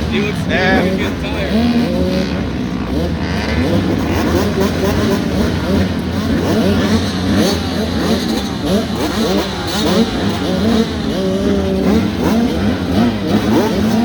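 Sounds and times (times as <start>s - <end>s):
pit bike engines revving: 0.0s - 14.0s.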